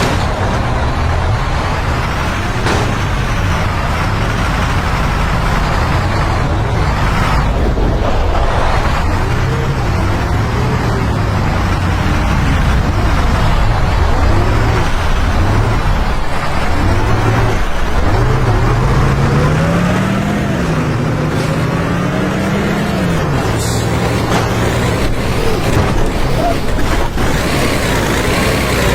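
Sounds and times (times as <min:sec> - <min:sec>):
heavy truck engine under load: 0:00.0 - 0:28.9.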